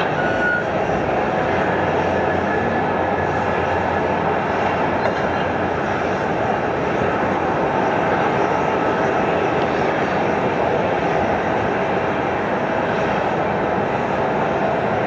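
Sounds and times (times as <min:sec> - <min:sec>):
jet engine whooshing hum: 0:00.0 - 0:15.0.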